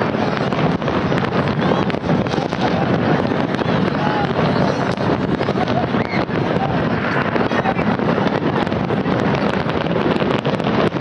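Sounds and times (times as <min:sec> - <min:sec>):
fireworks rumbling and crackling: 0:00.0 - 0:11.0
wind buffeting microphone: 0:00.0 - 0:11.0.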